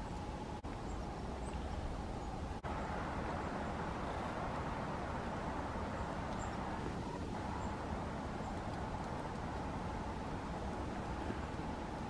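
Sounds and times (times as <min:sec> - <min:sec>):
faint steady hum: 0:00.0 - 0:12.0
low rumble and hiss: 0:00.0 - 0:12.0.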